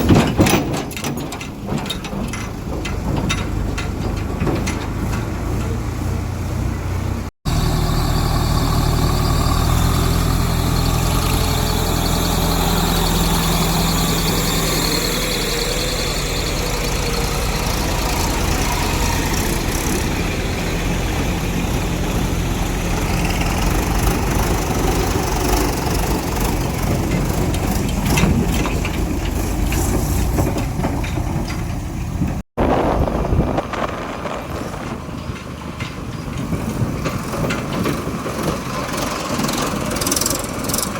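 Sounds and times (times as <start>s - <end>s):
heavy vehicle engine humming: 0.0s - 40.9s.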